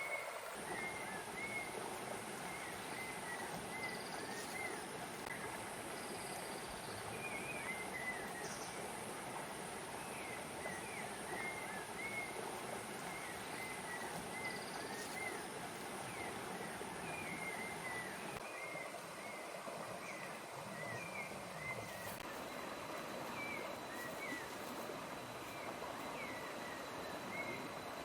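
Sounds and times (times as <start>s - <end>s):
rainforest hiss: 0.0s - 28.0s.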